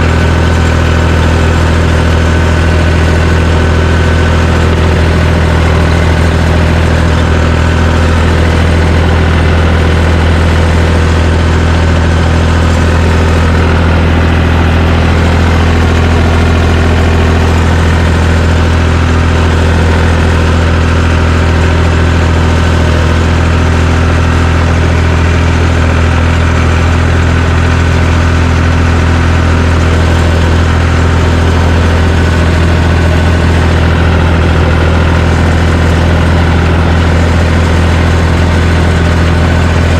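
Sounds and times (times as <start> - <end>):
bulldozer engine droning: 0.0 - 39.9.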